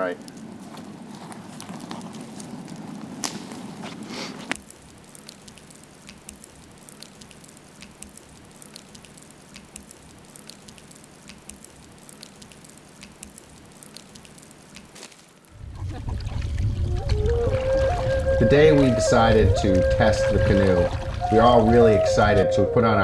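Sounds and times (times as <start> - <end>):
wood fire crackling and popping: 0.0 - 22.3.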